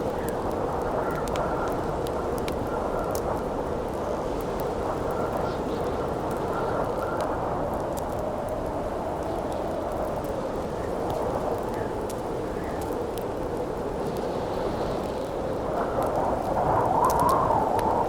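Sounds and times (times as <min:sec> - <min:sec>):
campfire crackling and popping: 0:00.0 - 0:18.0
howling wind: 0:00.0 - 0:18.0.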